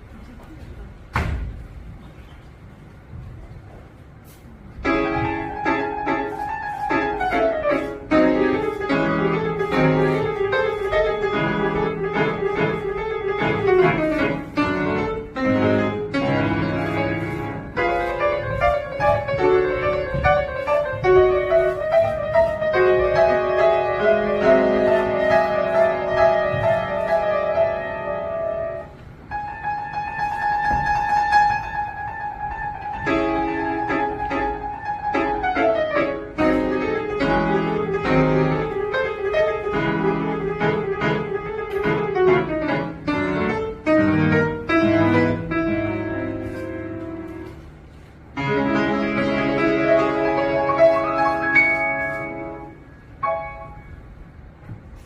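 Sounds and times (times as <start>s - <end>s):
solo acoustic piano piece: 1.1s - 55.0s.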